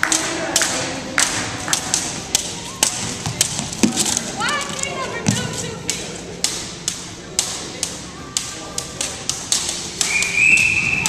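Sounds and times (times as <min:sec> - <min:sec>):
jump ropes slapping floor: 0:00.0 - 0:11.0.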